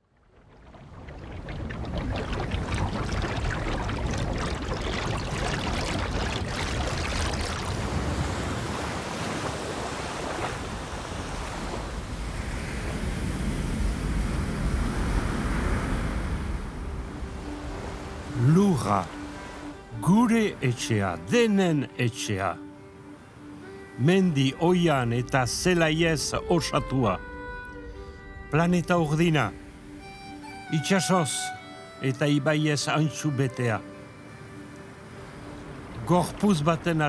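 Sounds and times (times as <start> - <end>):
waves breaking on shore: 0.0 - 37.0.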